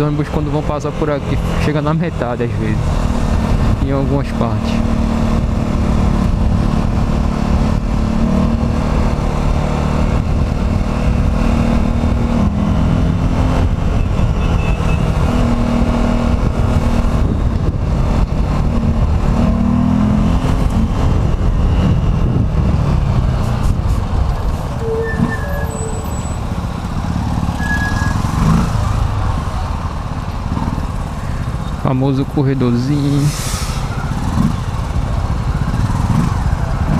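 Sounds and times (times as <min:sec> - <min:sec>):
vehicle engine and traffic: 0:00.0 - 0:36.9.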